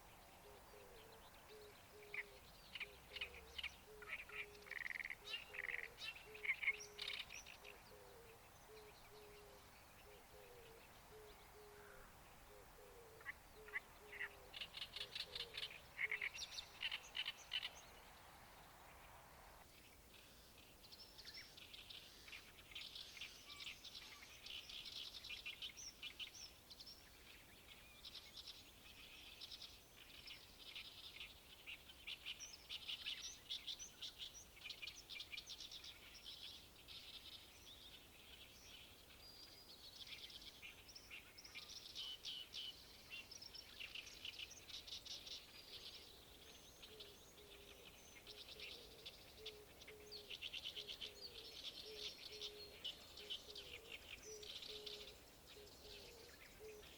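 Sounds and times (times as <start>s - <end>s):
songbird chattering song: 0.0s - 56.9s.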